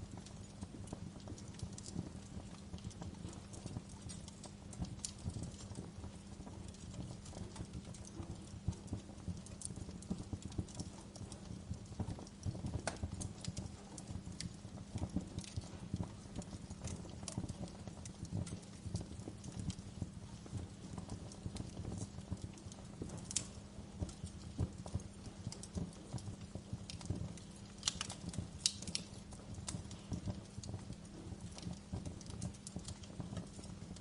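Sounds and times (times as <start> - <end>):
fire low rumble: 0.0 - 34.0
wood fire crackling: 0.0 - 34.0.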